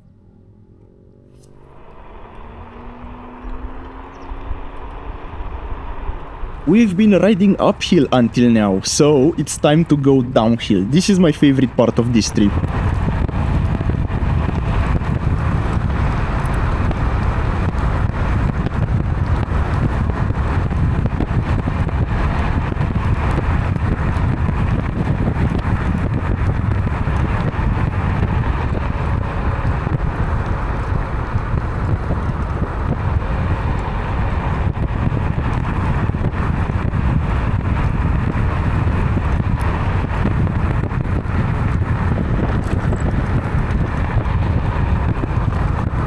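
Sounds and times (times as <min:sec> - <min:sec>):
scooter tyres rumbling on road: 0:00.0 - 0:46.0
wind buffeting microphone: 0:01.5 - 0:46.0.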